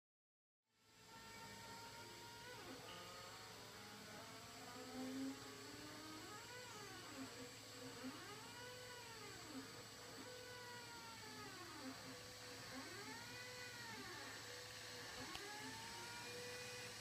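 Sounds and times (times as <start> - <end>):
faint steady hum: 0.8 - 17.0
stepper motors whining: 1.0 - 17.0.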